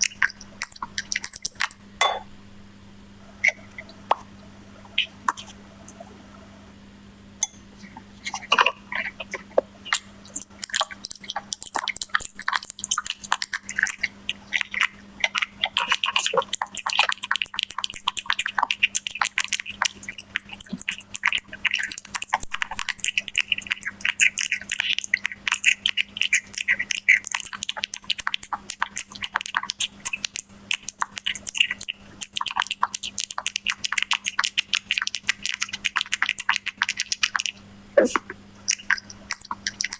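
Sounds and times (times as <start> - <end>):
cat chewing and smacking: 0.0 - 1.8, 7.8 - 39.9
steady low hum: 0.0 - 39.9.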